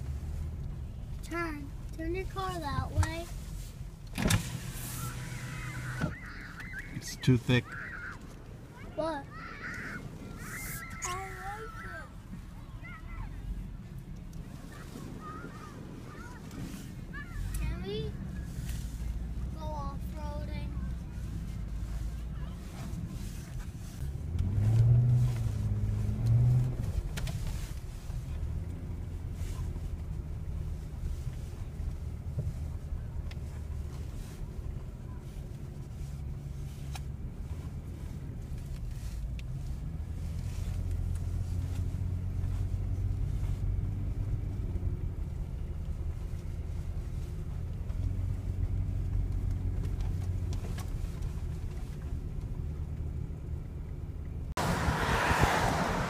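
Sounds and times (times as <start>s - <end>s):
car engine hum from cabin: 0.0s - 56.0s.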